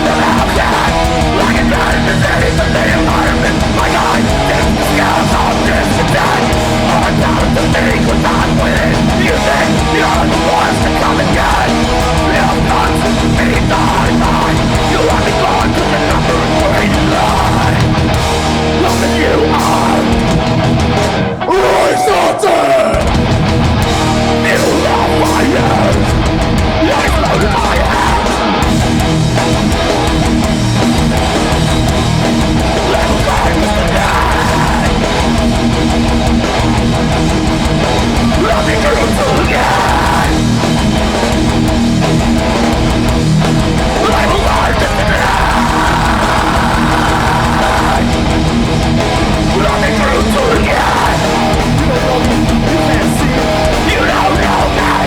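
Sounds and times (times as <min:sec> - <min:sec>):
distorted electric guitars: 0:00.0 - 0:55.0
drums: 0:00.0 - 0:55.0.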